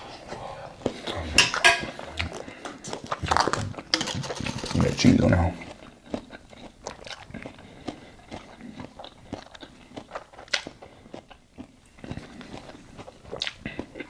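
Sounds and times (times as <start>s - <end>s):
chewing and crunching salad: 0.3s - 14.0s.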